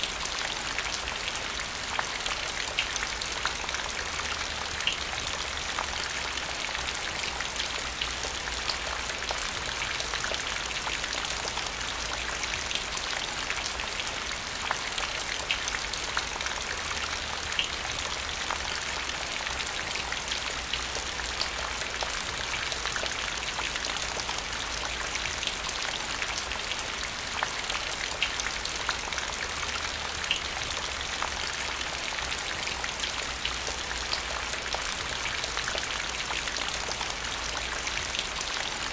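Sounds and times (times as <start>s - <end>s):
rain on hard surface: 0.0s - 38.9s.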